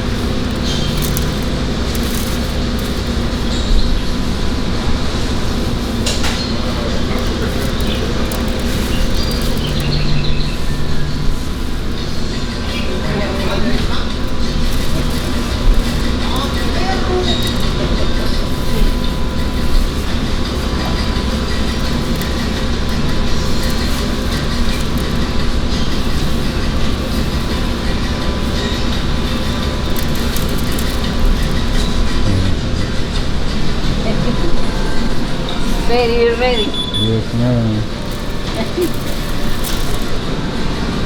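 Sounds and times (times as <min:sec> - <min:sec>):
faint constant hum: 0:00.0 - 0:41.0
loud mechanical rumble: 0:00.0 - 0:41.0.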